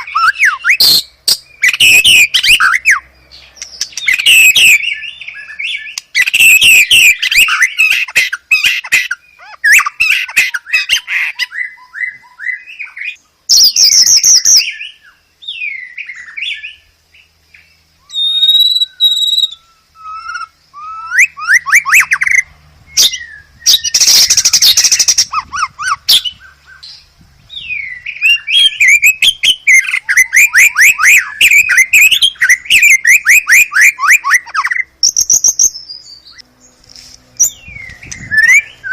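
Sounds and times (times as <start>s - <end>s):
bird singing trills and whistles: 0.0s - 38.9s.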